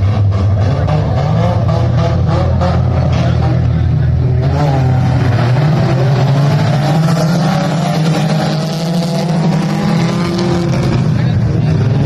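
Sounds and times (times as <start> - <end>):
race car engine revving high: 0.0 - 12.0.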